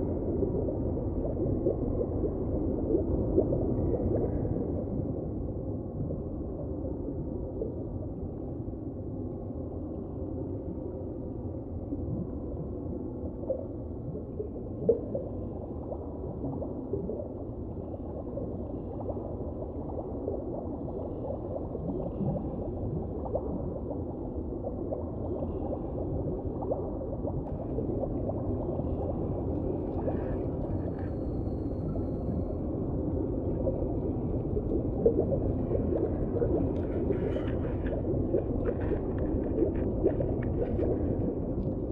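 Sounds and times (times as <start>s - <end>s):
muffled underwater rumble and hiss: 0.0s - 41.9s.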